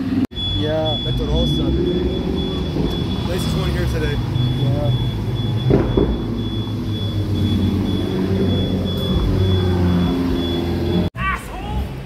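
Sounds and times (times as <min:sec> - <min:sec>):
sports car engines running: 0:00.0 - 0:11.1.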